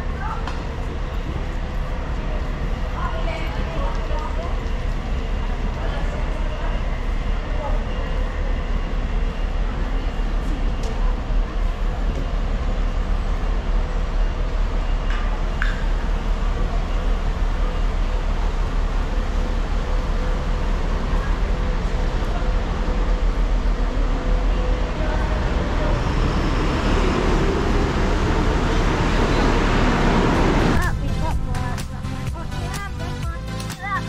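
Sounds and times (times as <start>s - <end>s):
rumble of buses and traffic: 0.0s - 34.0s.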